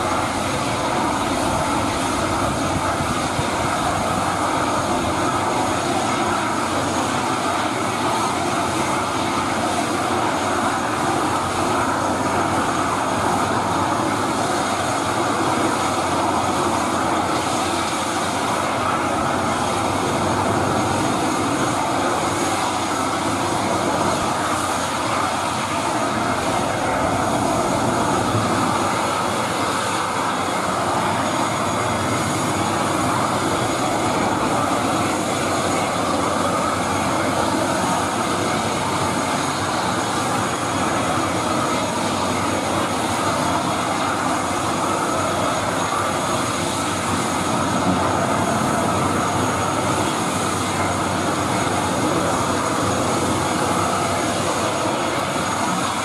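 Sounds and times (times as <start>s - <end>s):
turboprop engine droning: 0.0s - 56.0s.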